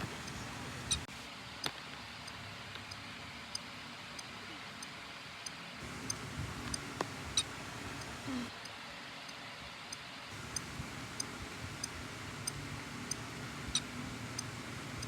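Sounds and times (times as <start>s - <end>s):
sharp clicks and ticks: 0.0s - 8.2s, 9.9s - 15.0s
steady hiss: 0.0s - 15.0s.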